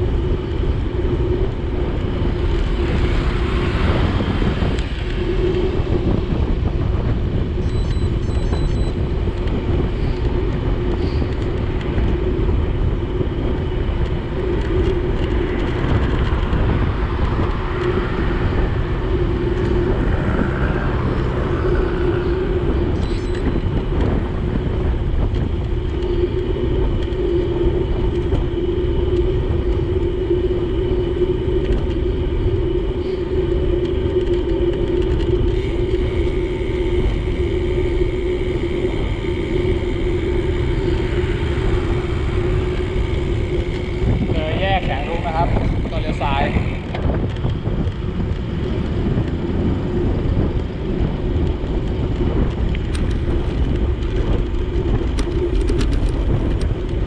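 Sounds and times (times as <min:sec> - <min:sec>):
bicycle road noise: 0:00.0 - 0:57.0
steady hum: 0:00.0 - 0:57.0
wind on microphone: 0:00.0 - 0:57.0.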